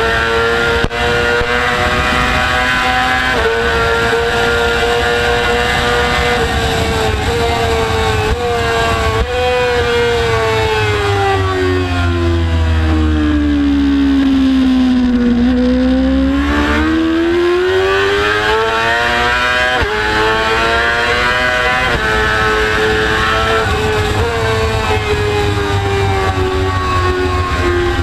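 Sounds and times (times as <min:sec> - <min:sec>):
wind rumble on microphone: 0:00.0 - 0:12.9, 0:14.1 - 0:28.0
motorcycle engine revving: 0:00.0 - 0:28.0.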